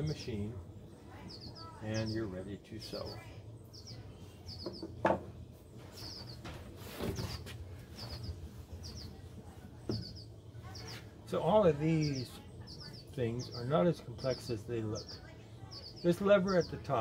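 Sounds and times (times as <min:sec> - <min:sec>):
small bird chirping: 0:00.0 - 0:05.0, 0:05.6 - 0:17.0
low steady hum: 0:00.0 - 0:17.0.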